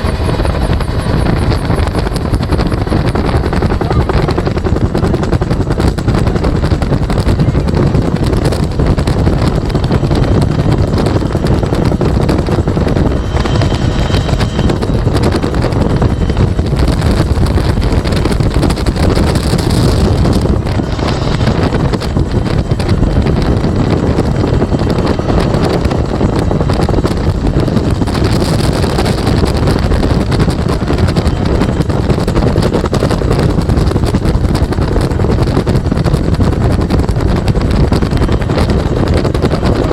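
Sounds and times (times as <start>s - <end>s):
helicopter rotor and engine: 0.0s - 39.9s
wind buffeting microphone: 0.0s - 39.9s.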